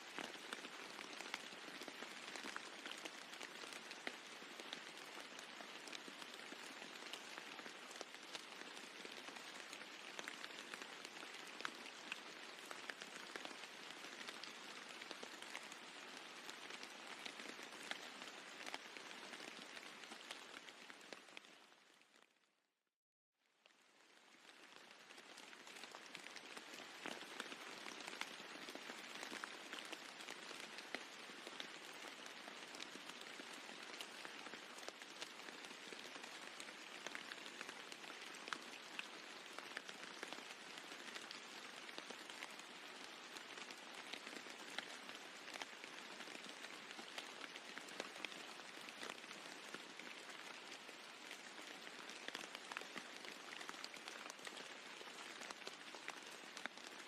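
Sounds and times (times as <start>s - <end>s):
rain falling on a roof: 0.0s - 22.7s, 23.4s - 57.0s.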